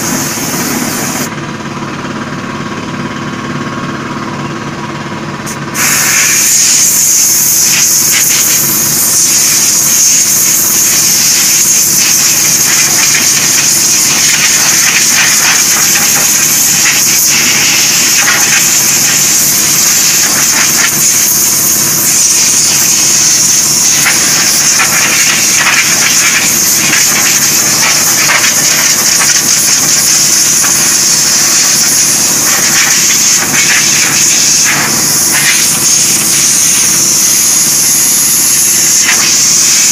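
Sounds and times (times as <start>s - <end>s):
spray gun hissing: 0.0s - 1.3s, 5.6s - 39.9s
machine hum: 0.0s - 39.9s.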